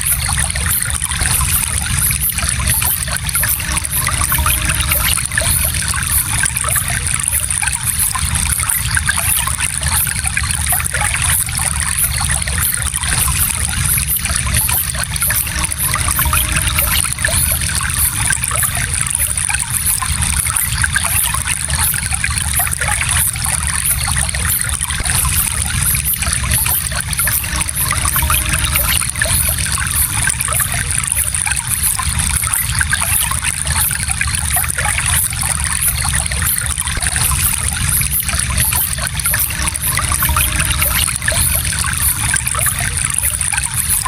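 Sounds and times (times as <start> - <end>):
gentle stream flowing: 0.0 - 44.0.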